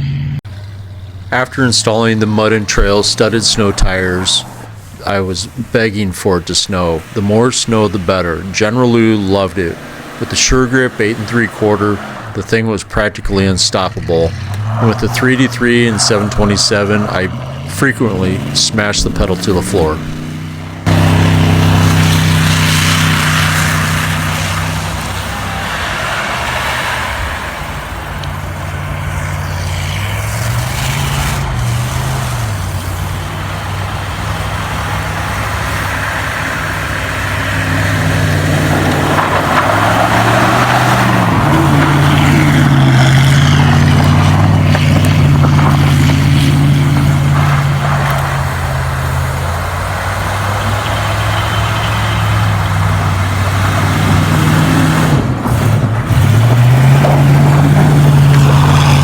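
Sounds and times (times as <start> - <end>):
car engine running hard: 0.0 - 59.0
rush of tyres and snow: 0.0 - 59.0.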